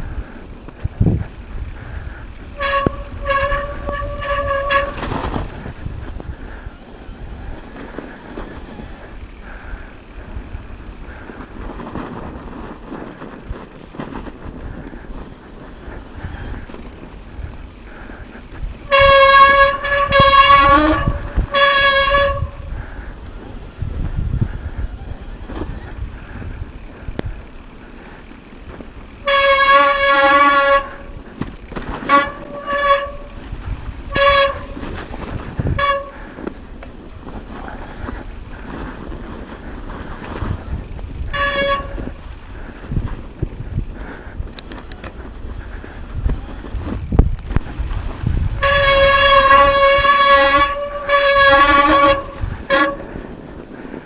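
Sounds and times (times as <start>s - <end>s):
bike disc brakes squealing: 0.0s - 15.2s, 15.8s - 23.8s, 24.5s - 53.2s
low trail rumble: 0.0s - 54.0s.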